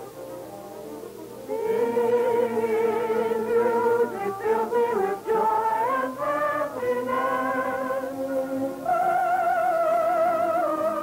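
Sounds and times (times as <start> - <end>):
wordless singing with vibrato: 1.5 - 11.0.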